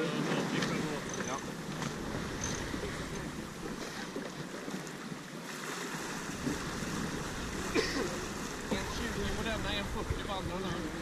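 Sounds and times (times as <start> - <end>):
water rushing past hull: 0.0 - 11.0
wind: 0.0 - 11.0.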